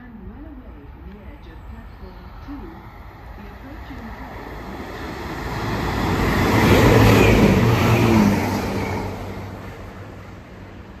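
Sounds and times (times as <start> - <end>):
train engine and wheel noise: 0.0 - 11.0.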